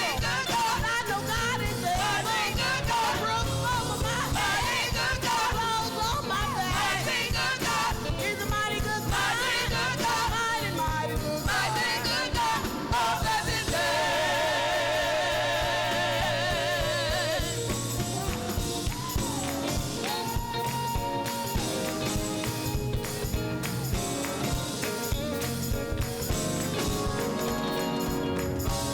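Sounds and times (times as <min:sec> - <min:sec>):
band with drums and bass: 0:00.0 - 0:28.9
gospel singing: 0:00.0 - 0:28.9.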